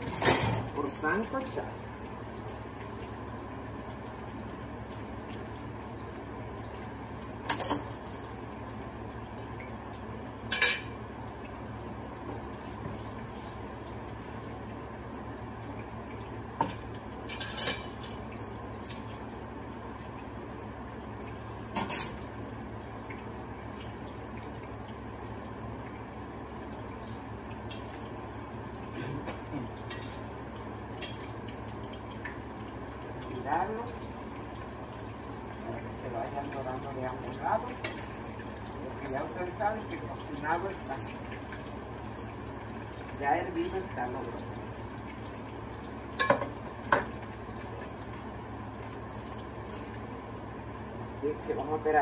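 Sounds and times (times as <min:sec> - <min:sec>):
food frying in oil: 0:00.0 - 0:52.0.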